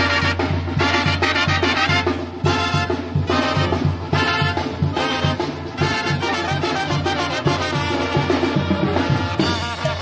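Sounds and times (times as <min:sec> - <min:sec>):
latin brass band music: 0:00.0 - 0:10.0.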